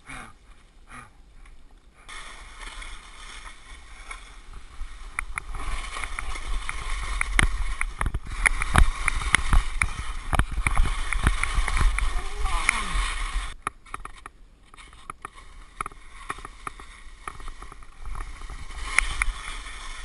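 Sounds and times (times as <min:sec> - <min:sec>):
skis and poles clicking: 0:01.4 - 0:20.0
skis scraping over snow: 0:02.0 - 0:20.0.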